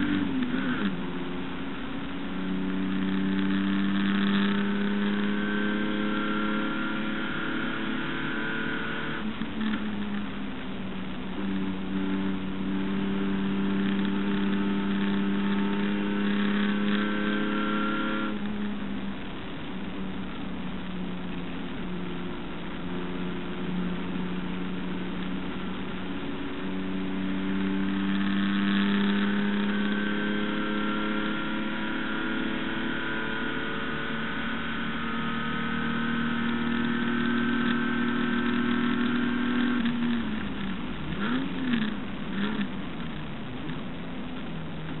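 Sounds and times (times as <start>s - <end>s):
race car engine at full throttle: 0.0s - 45.0s.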